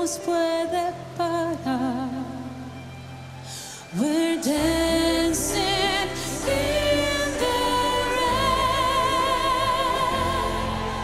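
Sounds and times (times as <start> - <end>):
woman singing with vibrato: 0.0 - 2.9, 3.5 - 11.0
keyboards and bass backing: 0.0 - 11.0.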